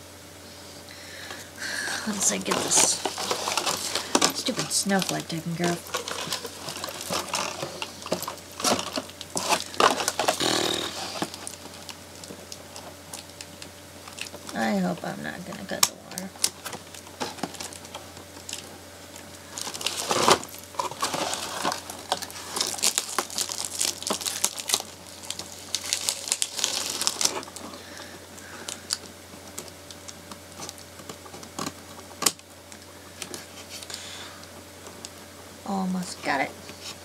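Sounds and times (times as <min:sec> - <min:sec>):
packaging crinkling and rustling: 0:02.0 - 0:35.2.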